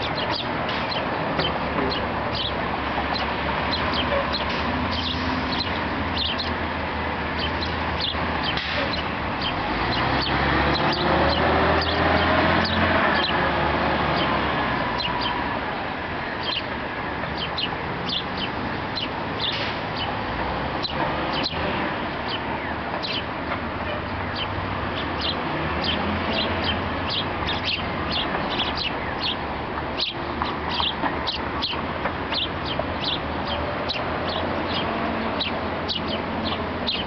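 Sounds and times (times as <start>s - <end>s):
small birds chirping: 0.0s - 37.0s
steady outdoor noise: 0.0s - 37.0s.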